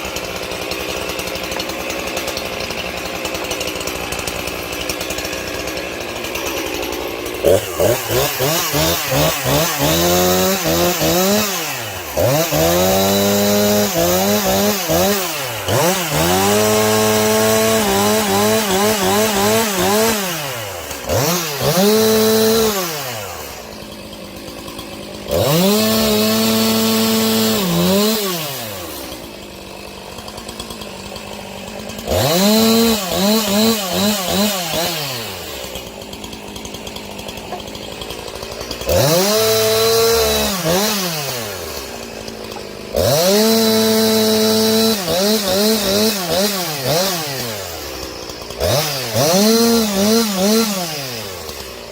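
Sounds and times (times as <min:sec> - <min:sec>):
chainsaw revving and idling: 0:00.0 - 0:51.9.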